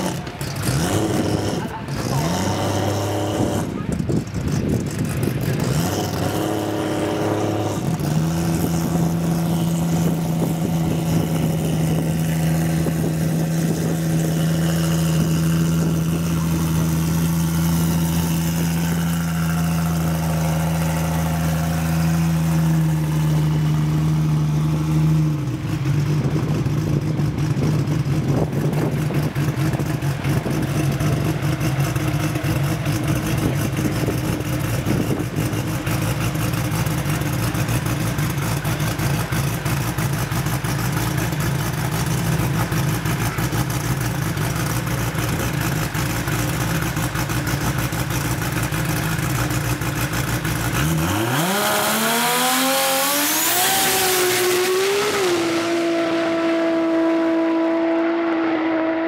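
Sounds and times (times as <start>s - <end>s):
drag car engine running: 0.0s - 59.0s.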